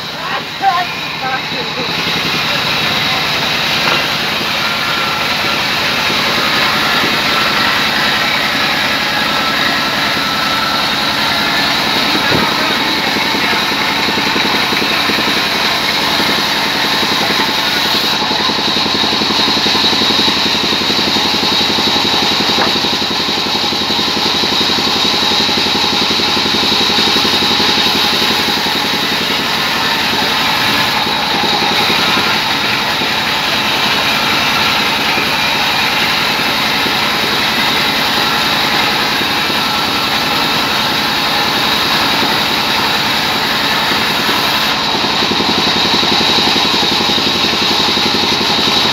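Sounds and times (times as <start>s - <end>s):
band saw ripping plank: 3.4s - 48.9s.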